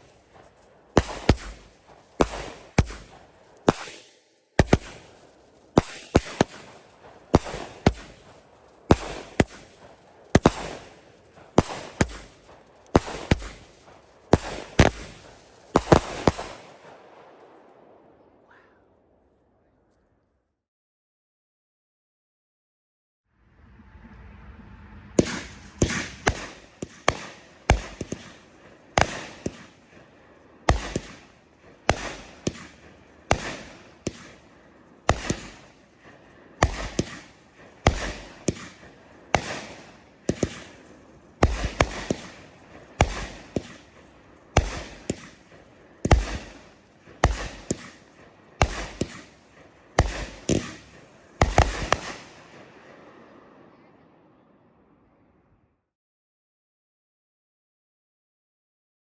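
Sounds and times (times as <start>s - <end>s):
firework booms: 0.0s - 18.7s, 23.4s - 53.5s.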